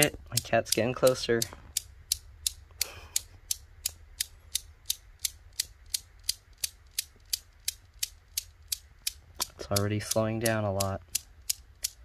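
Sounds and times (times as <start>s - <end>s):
newton's cradle balls clicking: 0.0s - 12.0s.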